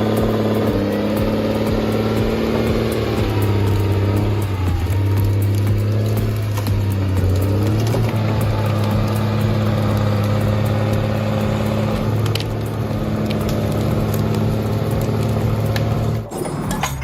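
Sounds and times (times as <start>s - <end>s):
diesel engine running: 0.0s - 17.0s
sharp clicks and knocks: 0.1s - 17.0s.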